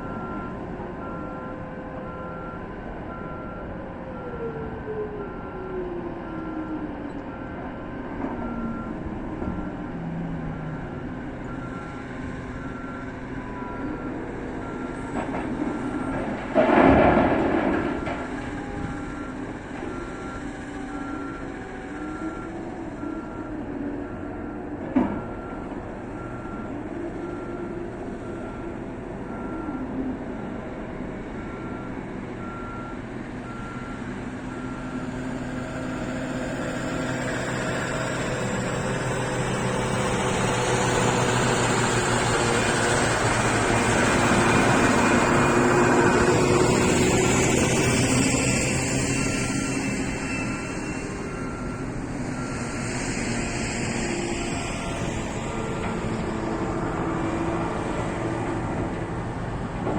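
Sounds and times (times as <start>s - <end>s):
reversing alarm beeping: 0.0s - 58.9s
truck diesel engine: 0.0s - 59.9s.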